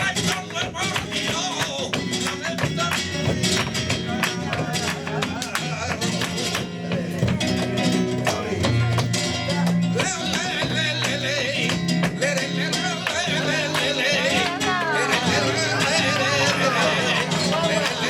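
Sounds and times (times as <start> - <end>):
flamenco guitar: 0.0 - 18.0.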